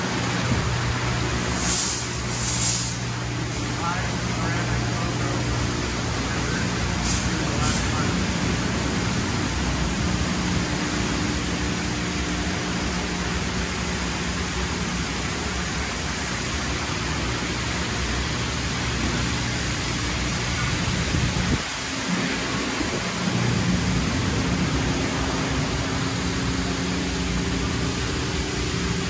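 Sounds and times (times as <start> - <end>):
low equipment hum: 0.0 - 29.0
water spraying: 0.0 - 29.0.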